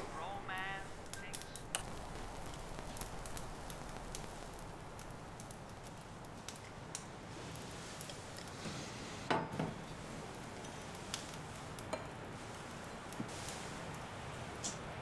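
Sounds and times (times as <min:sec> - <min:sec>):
faint steady hiss: 0:00.0 - 0:15.0
light crackles and clicks: 0:00.0 - 0:15.0.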